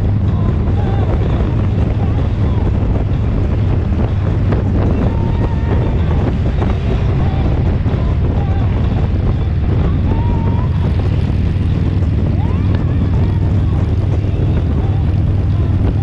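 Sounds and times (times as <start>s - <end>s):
motorcycle engine rumble: 0.0s - 16.0s
wind rushing over microphone: 0.0s - 16.0s.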